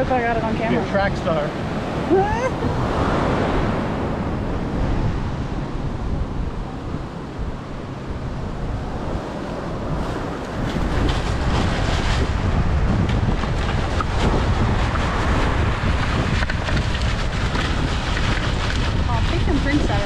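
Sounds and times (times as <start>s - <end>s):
beach surf: 0.0s - 20.0s
wind buffeting microphone: 0.0s - 20.0s.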